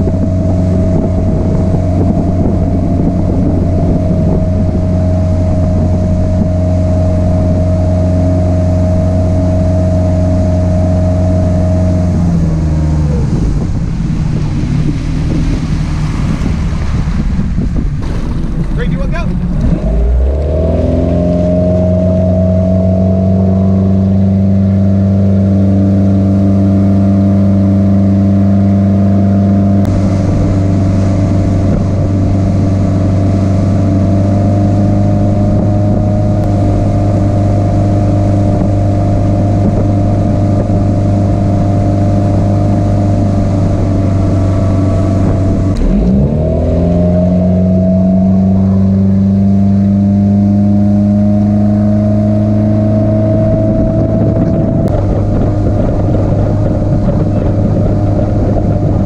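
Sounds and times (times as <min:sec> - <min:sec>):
motorboat engine running: 0:00.0 - 0:59.0
water churning: 0:00.0 - 0:59.0.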